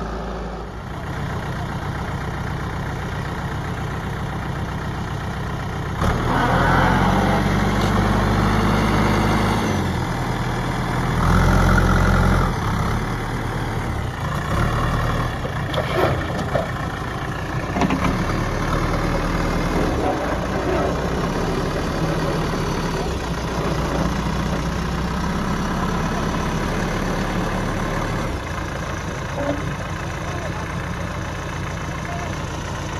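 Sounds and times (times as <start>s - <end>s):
diesel engine revving: 5.8s - 32.9s.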